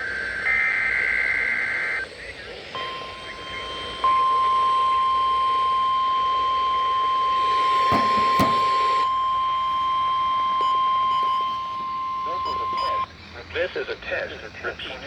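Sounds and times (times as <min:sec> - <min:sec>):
steady high-pitched warning tone: 0:00.0 - 0:13.2.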